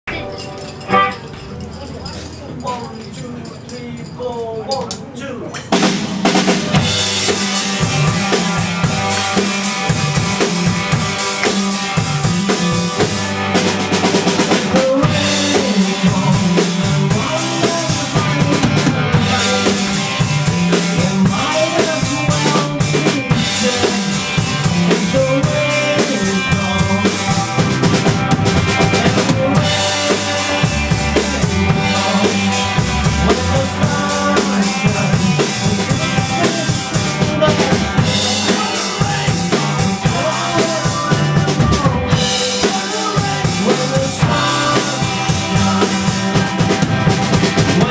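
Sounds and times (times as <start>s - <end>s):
band playing a song: 0.1s - 2.4s, 5.6s - 47.9s
drum kit steady beat: 5.7s - 47.9s
bass line: 6.3s - 47.9s.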